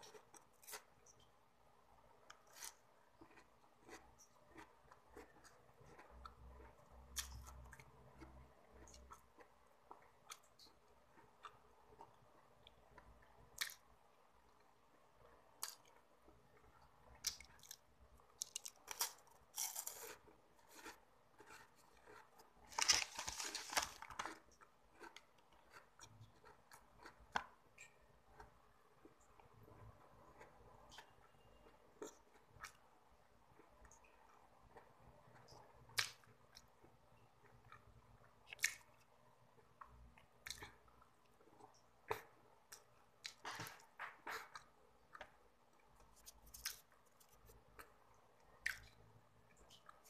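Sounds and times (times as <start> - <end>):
chewing and crunching wafer: 0.0 - 50.0.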